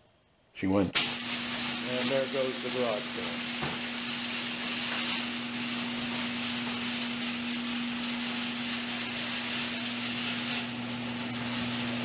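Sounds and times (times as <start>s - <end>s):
garage door opener motor hum: 1.0s - 12.0s.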